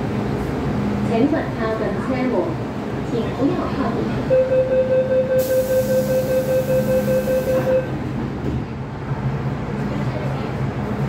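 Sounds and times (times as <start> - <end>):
train rumbling in motion: 0.0 - 11.0.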